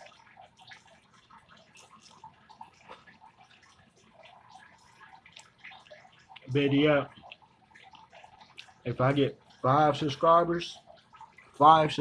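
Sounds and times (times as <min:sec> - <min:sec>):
small irregular ticks: 0:00.0 - 0:09.7
water trickling and dripping: 0:00.0 - 0:12.0.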